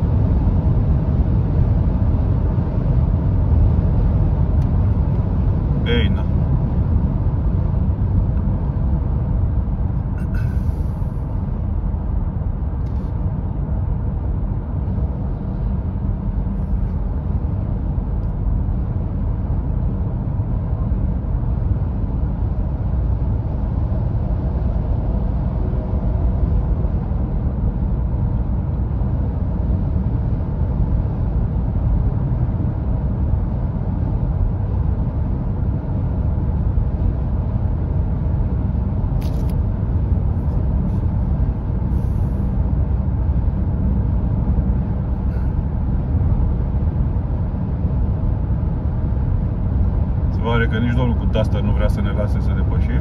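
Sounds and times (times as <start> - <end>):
road noise inside car: 0.0 - 53.0.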